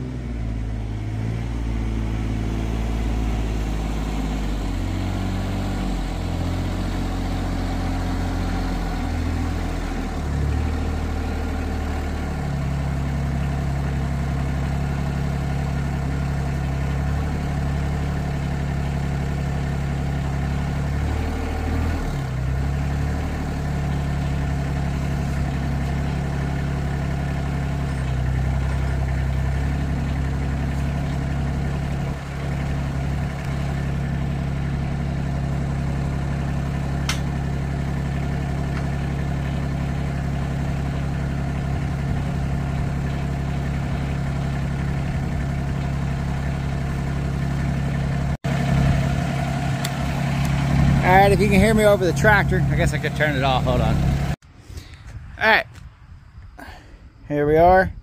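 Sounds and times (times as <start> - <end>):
tractor engine running: 0.0 - 55.6.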